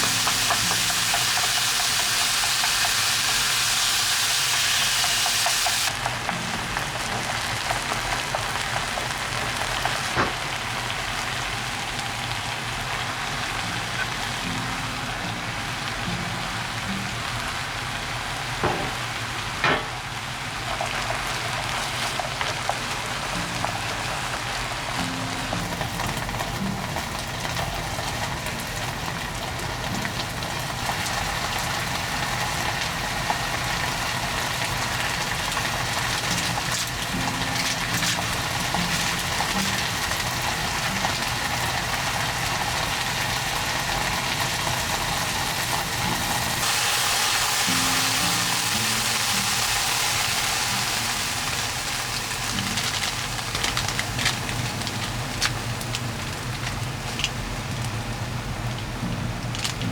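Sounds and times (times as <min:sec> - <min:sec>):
soft background music: 0:00.0 - 0:10.2, 0:11.6 - 0:19.3, 0:21.4 - 0:55.8, 0:58.6 - 0:59.9.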